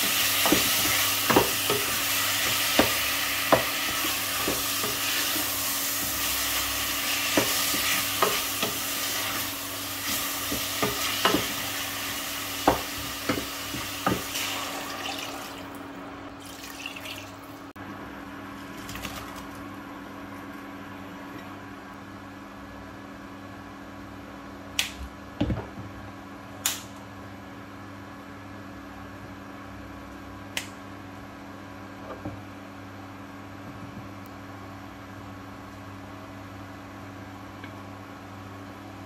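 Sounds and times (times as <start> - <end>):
induction hob humming: 0.0 - 39.0.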